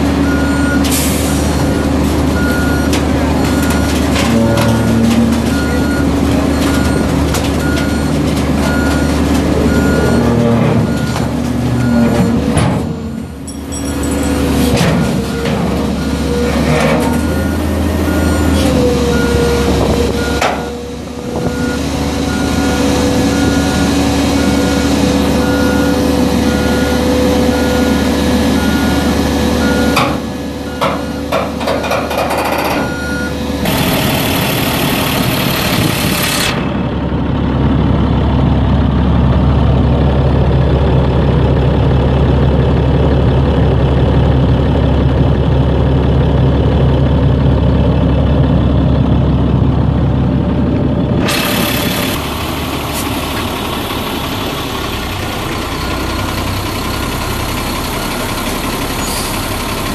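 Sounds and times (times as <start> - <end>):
diesel engine idling: 0.0 - 59.9
hydraulics whining: 0.0 - 59.9.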